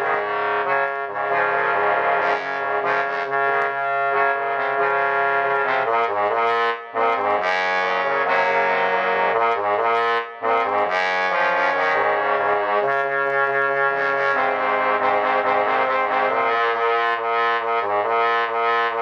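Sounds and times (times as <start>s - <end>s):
trombones playing rock riff: 0.0s - 19.0s.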